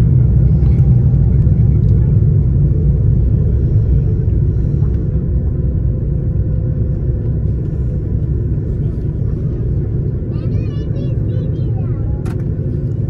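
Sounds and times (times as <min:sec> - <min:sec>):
aircraft cabin rumble while taxiing: 0:00.0 - 0:13.0.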